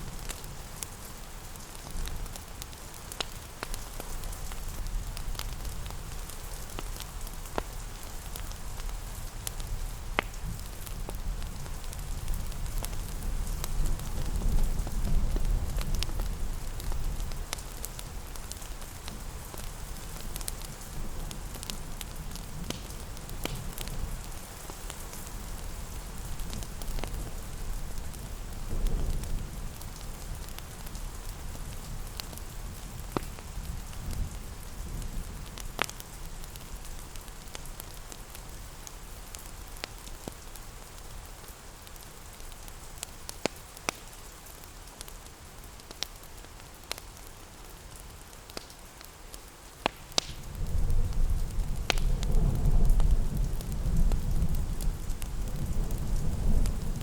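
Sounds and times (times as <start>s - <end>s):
fireplace crackling: 0.0s - 57.0s
steady rain pattering: 0.0s - 57.0s.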